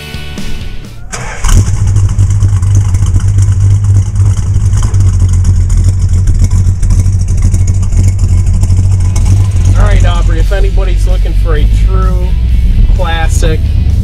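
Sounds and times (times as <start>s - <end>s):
car engine running: 0.4s - 14.0s.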